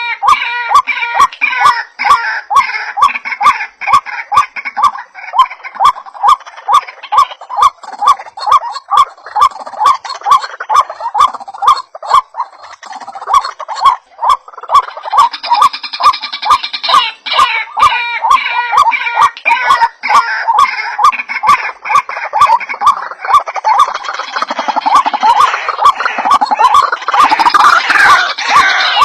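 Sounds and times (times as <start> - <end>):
higher bird chatter: 0.0 - 29.0
waterhen croaking calls: 0.0 - 29.0.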